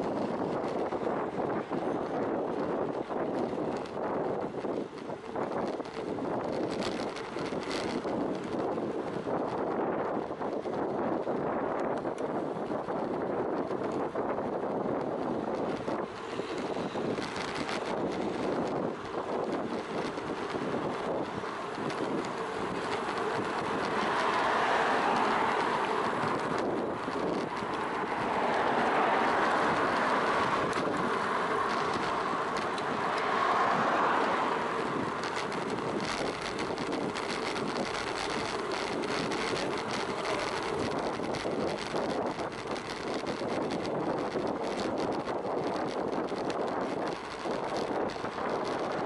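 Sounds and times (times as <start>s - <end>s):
bicycle tyre and road noise: 0.0s - 49.0s
small clicks and rattles: 0.0s - 49.0s
wind rushing over microphone: 0.0s - 49.0s.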